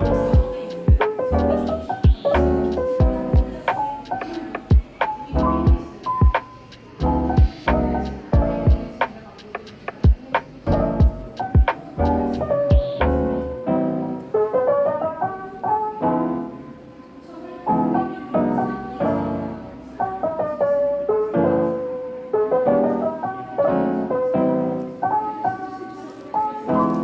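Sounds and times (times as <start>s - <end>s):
lo-fi piano music: 0.0s - 27.0s.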